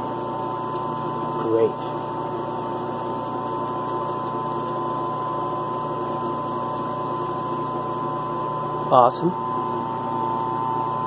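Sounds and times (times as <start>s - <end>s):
water pump running: 0.0s - 9.3s
lapidary machine motor hum: 0.0s - 11.0s.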